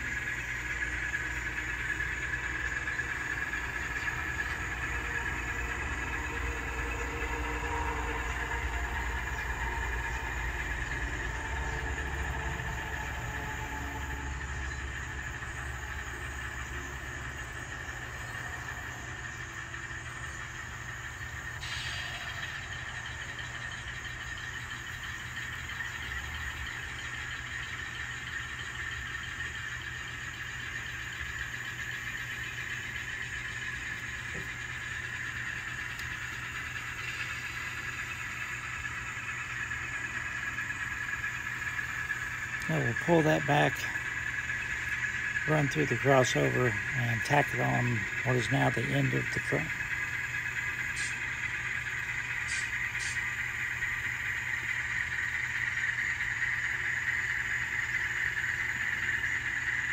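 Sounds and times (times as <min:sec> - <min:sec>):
model diesel engine sound from speaker: 0:00.0 - 0:59.9.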